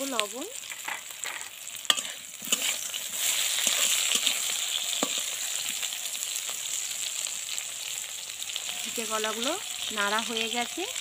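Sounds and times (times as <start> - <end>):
banana frying in oil: 0.0 - 11.0.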